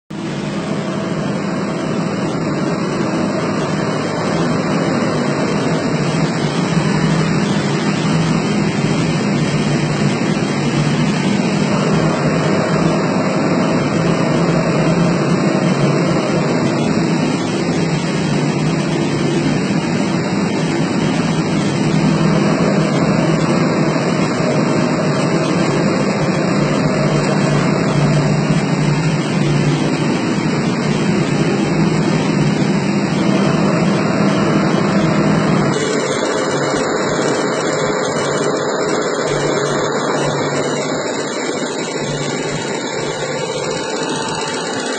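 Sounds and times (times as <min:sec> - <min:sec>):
boiler burner roaring: 0:00.1 - 0:44.9.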